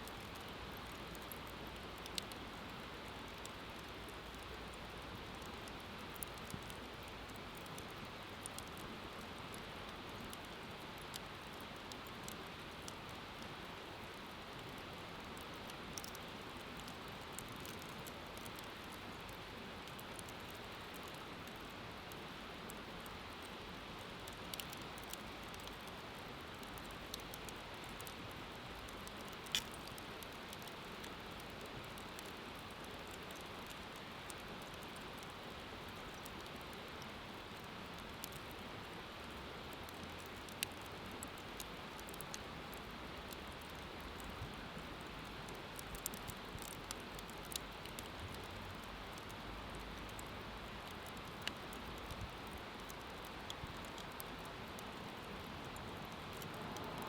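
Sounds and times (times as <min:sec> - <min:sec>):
fire crackles and pops: 0:00.0 - 0:57.0.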